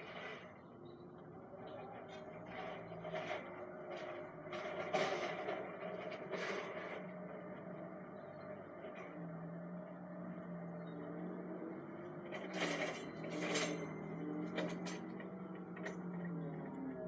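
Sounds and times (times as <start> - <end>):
truck engine drone from cab: 0.0 - 17.0.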